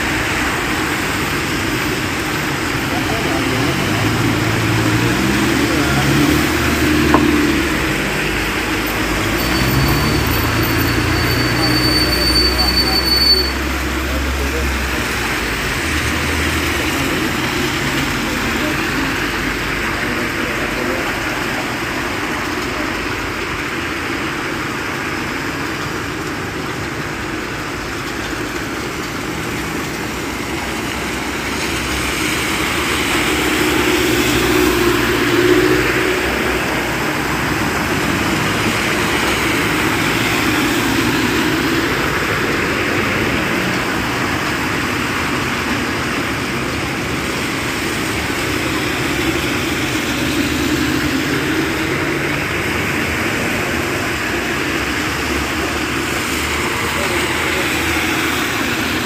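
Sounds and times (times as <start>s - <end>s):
car engines running: 0.0s - 13.0s, 13.6s - 59.0s.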